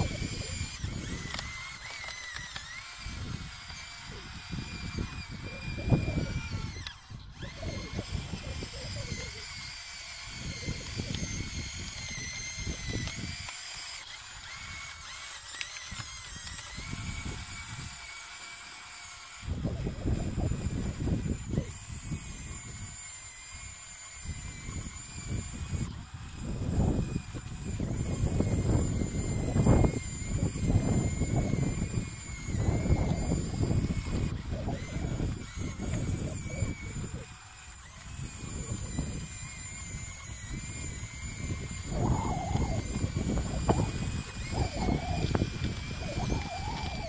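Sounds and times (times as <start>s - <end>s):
electric motors whining: 0.0s - 47.0s.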